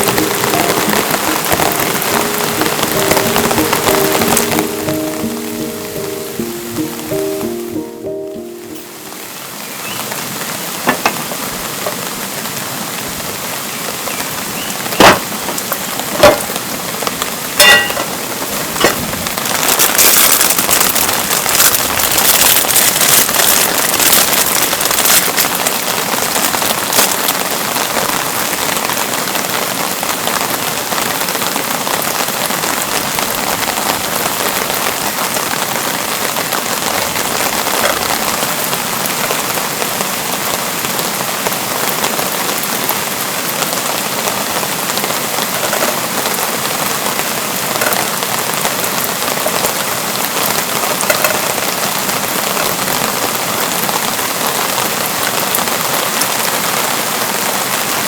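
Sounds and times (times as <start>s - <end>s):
loud single raindrops: 0.0s - 9.0s, 14.2s - 58.0s
steady rainfall: 0.0s - 58.0s.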